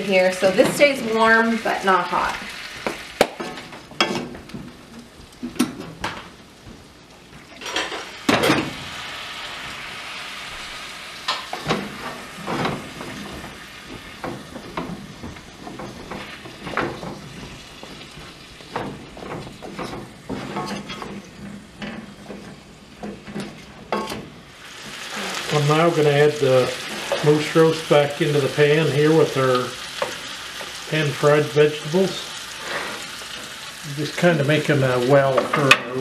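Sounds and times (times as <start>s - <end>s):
vegetables sizzling in a skillet: 0.0s - 36.0s.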